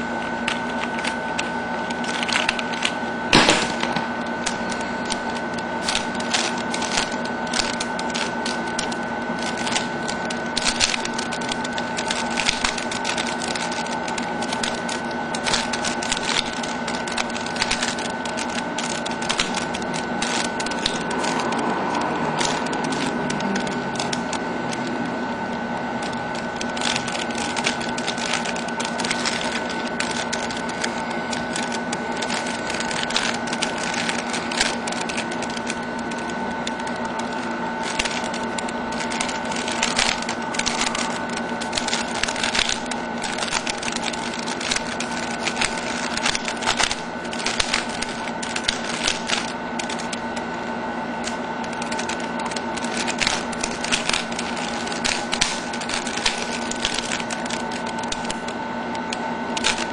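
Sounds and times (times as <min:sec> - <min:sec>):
steady hum: 0:00.0 - 0:59.9
puzzle cube clicking: 0:00.5 - 0:24.8, 0:26.0 - 0:50.2.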